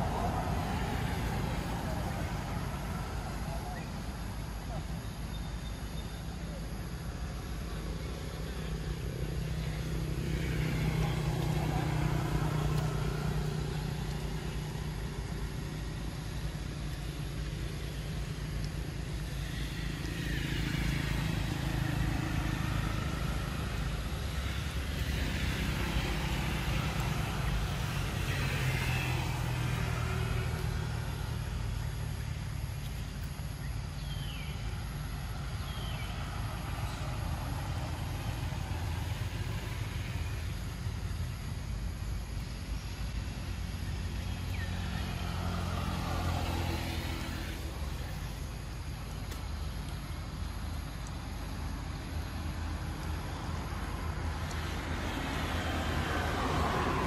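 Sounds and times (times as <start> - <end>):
passing vehicle engines hum: 0.0 - 57.0.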